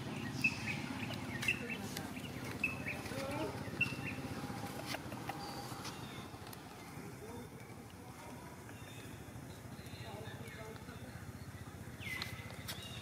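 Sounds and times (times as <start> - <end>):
bird chirping: 0.0 - 7.5, 8.7 - 13.0.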